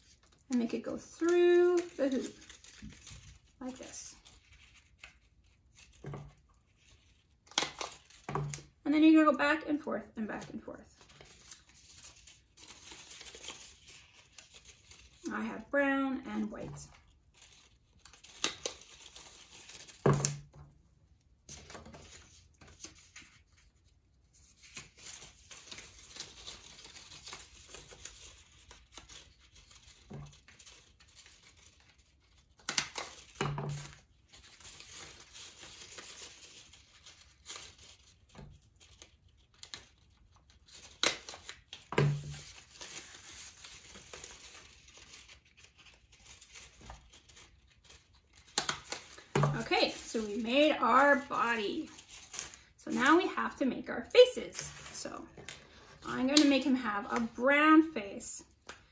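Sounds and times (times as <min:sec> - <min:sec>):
paper strips rustling and crinkling: 0:00.0 - 0:08.8, 0:10.3 - 0:15.7, 0:16.4 - 0:20.7, 0:21.4 - 0:58.9.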